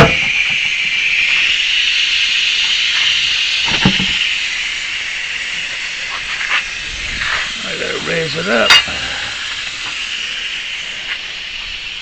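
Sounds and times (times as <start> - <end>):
air hissing out of a tire: 0.0 - 12.0.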